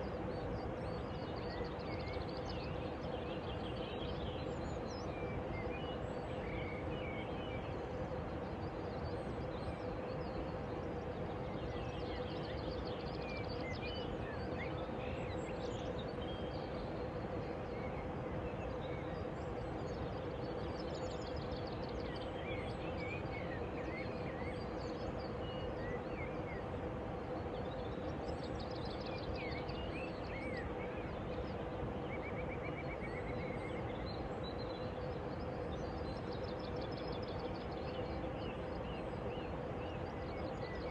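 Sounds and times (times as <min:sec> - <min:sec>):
faint hum: 0:00.0 - 0:40.9.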